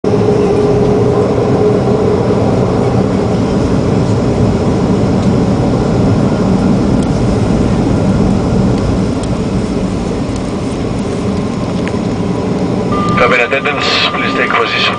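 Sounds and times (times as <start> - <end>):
jet engines running: 0.0 - 14.9
steady hum: 0.1 - 14.9.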